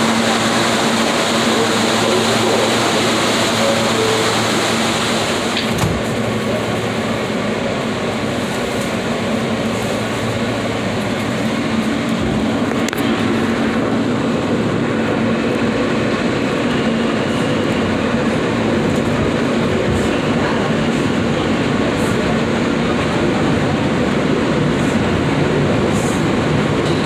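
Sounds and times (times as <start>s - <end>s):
subway wheels rushing on rail: 0.0s - 27.0s.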